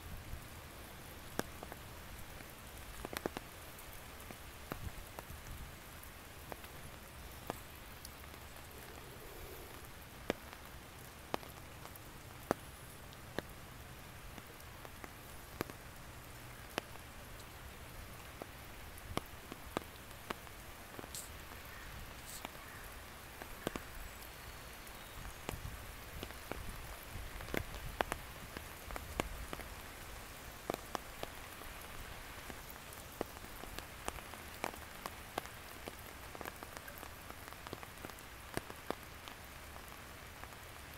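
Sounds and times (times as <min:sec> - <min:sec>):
light rain on leaves: 0:00.0 - 0:40.9.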